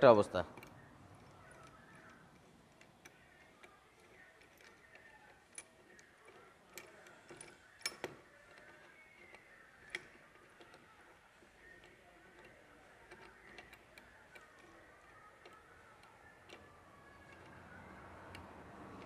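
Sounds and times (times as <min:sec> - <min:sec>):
faint metal clicks: 0:00.4 - 0:19.0.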